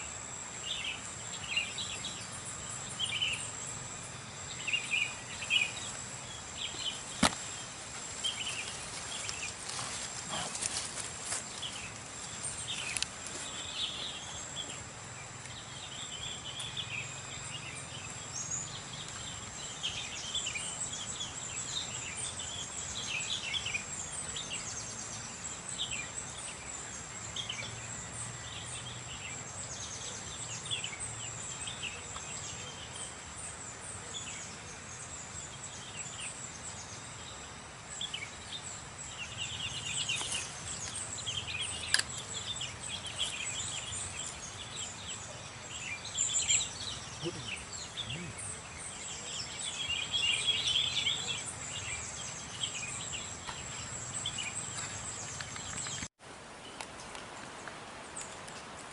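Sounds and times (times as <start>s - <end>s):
bird chirps: 0.0s - 56.1s.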